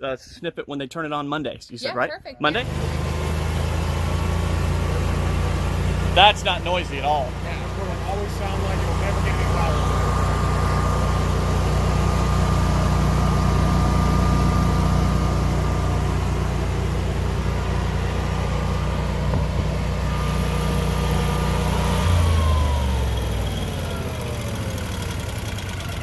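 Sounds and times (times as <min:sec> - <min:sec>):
generator engine humming with whine: 0:02.5 - 0:26.0.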